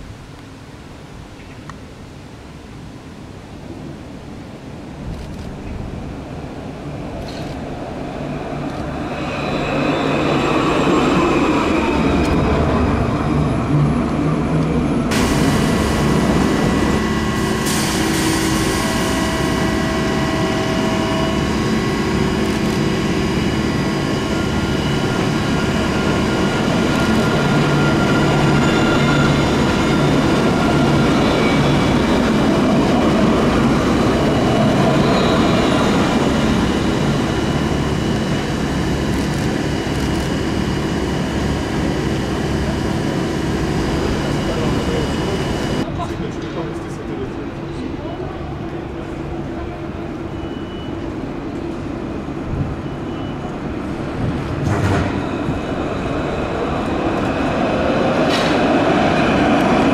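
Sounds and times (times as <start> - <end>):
tram rolling rumble: 0.0 - 59.9
tram whining tones: 7.6 - 59.9.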